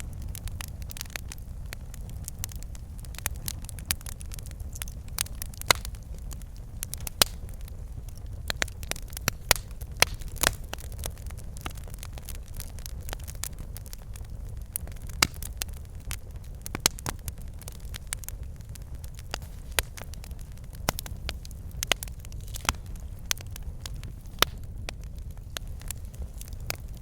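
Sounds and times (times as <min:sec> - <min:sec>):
fire flames rumbling: 0:00.0 - 0:27.0
logs crackling and popping: 0:00.0 - 0:27.0.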